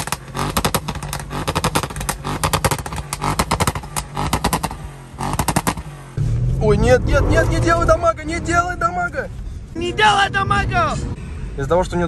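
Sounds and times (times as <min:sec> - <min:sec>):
exhaust crackling and popping: 0:00.0 - 0:11.2
car engine idling: 0:00.0 - 0:12.0.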